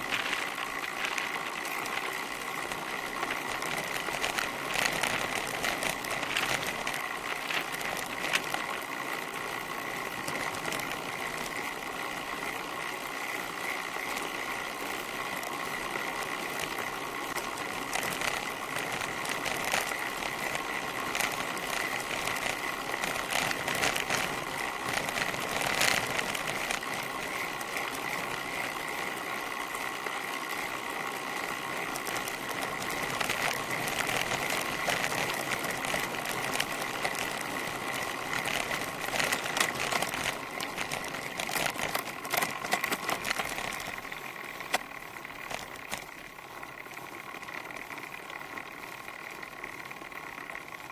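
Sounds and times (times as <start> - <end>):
bicycle freehub buzzing: 0.0 - 50.9
tyre noise on tarmac: 0.0 - 50.9.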